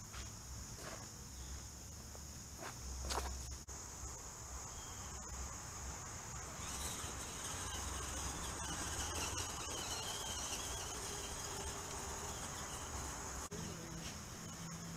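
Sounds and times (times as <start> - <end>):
insects chirring: 0.0 - 14.9.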